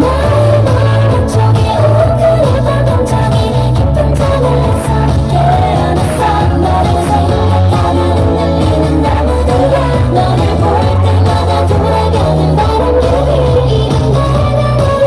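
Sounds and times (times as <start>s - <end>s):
girl group singing live: 0.0s - 15.0s
pop backing track with heavy bass: 0.0s - 15.0s.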